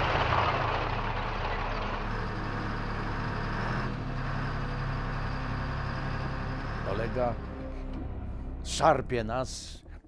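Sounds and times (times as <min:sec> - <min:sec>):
tank engine rumbling: 0:00.0 - 0:10.0.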